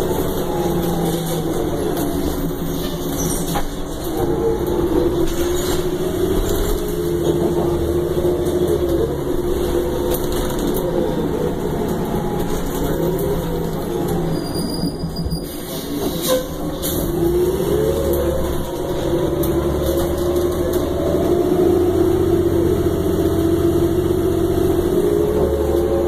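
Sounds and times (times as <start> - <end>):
bus engine rumble and whine: 0.0 - 26.0.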